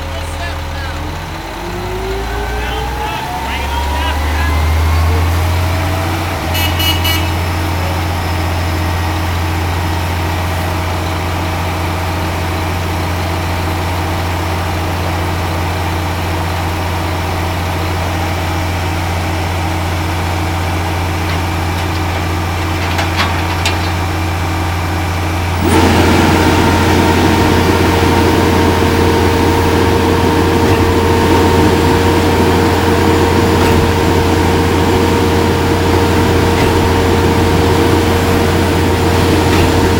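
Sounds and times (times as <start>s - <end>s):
diesel engines running: 0.0s - 39.9s
machinery whine: 0.0s - 39.9s.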